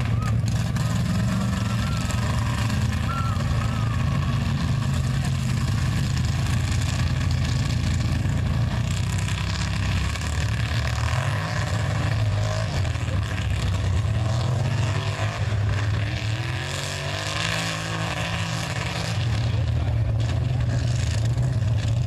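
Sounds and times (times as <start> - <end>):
truck engine drone: 0.0 - 22.0.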